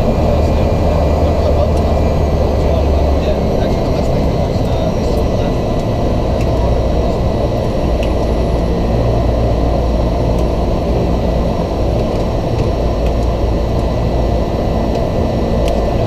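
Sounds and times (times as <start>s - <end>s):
high engine whine: 0.0s - 16.0s
turboprop engine drone: 0.0s - 16.0s.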